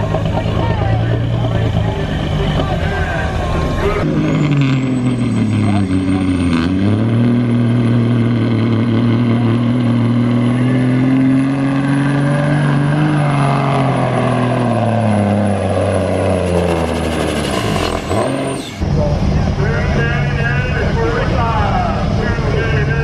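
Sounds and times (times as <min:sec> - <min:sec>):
diesel truck engine under load: 0:00.0 - 0:23.0.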